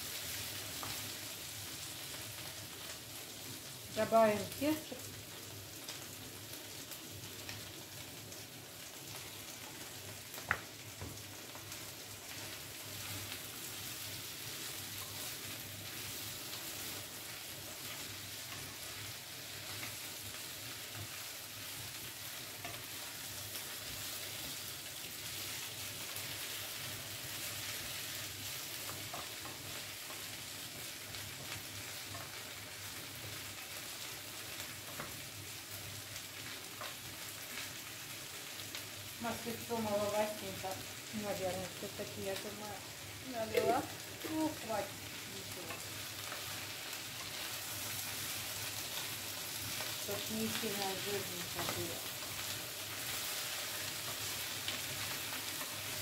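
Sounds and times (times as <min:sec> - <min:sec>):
food sizzling in a frying pan: 0:00.0 - 0:56.0.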